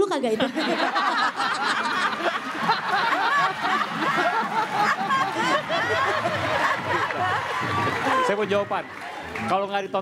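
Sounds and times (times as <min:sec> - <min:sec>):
audience laughing: 0:00.3 - 0:09.4.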